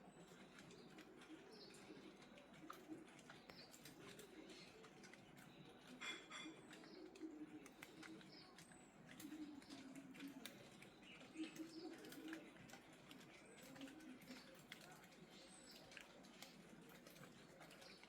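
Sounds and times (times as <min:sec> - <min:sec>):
faint birdsong: 0:00.0 - 0:18.0.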